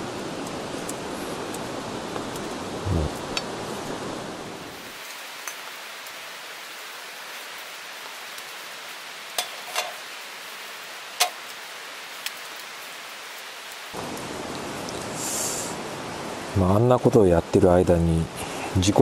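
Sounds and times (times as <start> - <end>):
running water hiss: 0.0 - 19.0.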